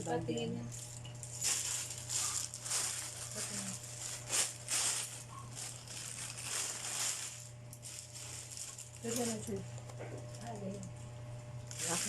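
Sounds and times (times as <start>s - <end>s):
low electrical hum: 0.0s - 12.0s
plastic packaging crinkling: 0.7s - 10.8s, 11.6s - 12.0s.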